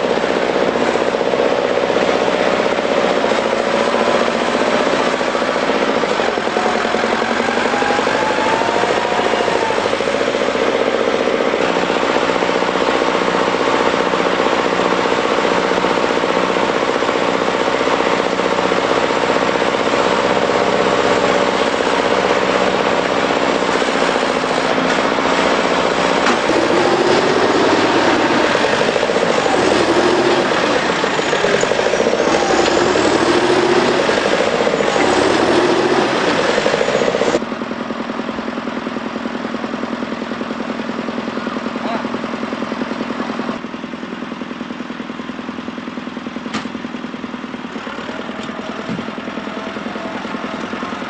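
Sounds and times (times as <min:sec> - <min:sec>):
tractor diesel engines clattering: 0:00.0 - 0:51.0.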